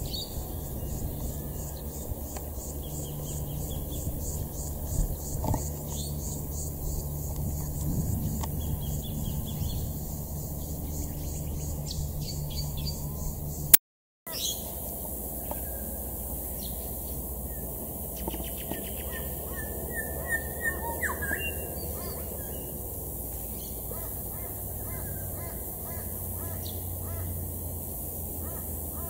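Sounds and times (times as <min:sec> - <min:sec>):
low steady rumble: 0:00.0 - 0:13.8, 0:14.6 - 0:29.0
bird singing: 0:00.0 - 0:29.0.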